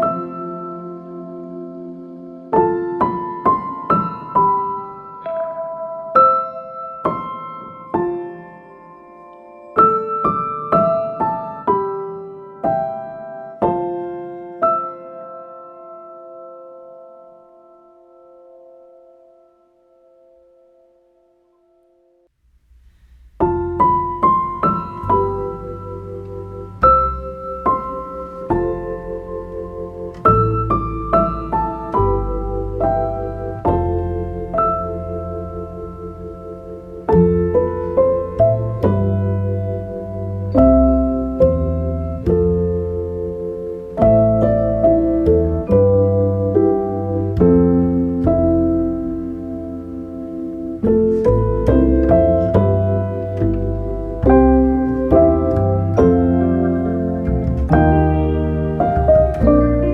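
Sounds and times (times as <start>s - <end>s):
gentle piano notes: 0.0s - 22.2s, 22.8s - 59.9s.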